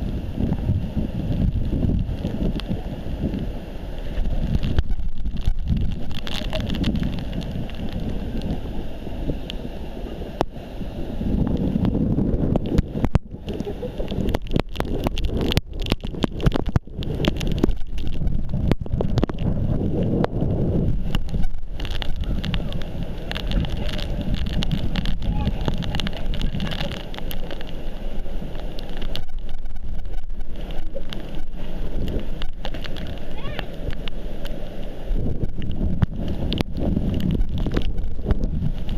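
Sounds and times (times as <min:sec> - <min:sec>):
sharp crackles and knocks: 0:00.0 - 0:09.6, 0:11.3 - 0:38.9
wind buffeting microphone: 0:00.0 - 0:38.9.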